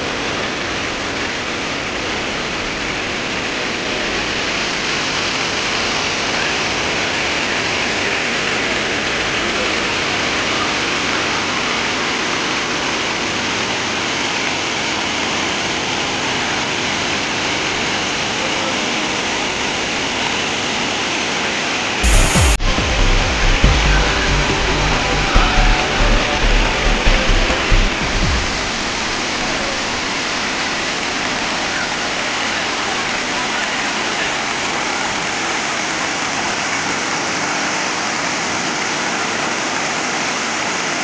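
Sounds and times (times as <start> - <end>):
waterfall pouring into pool: 0.0 - 41.0.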